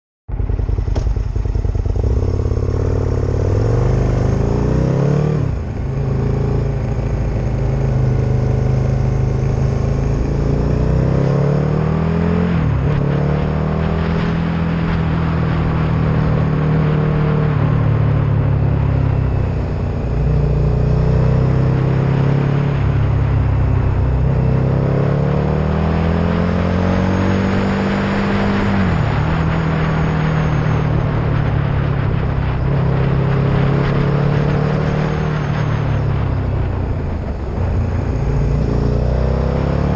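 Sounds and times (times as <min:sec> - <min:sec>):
engine accelerating and shifting gears: 0:00.3 - 0:39.9
road and wind noise: 0:00.3 - 0:39.9.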